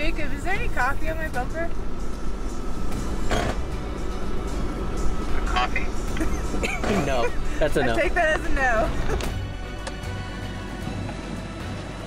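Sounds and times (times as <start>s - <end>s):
background music: 0.0s - 12.0s
vehicle rumble on gravel: 0.0s - 12.0s.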